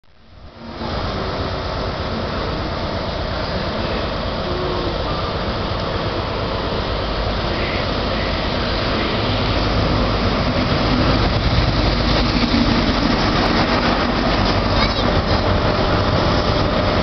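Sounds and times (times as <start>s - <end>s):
diesel train engine passing: 0.1s - 17.0s
wheel-on-rail rumble: 0.1s - 17.0s.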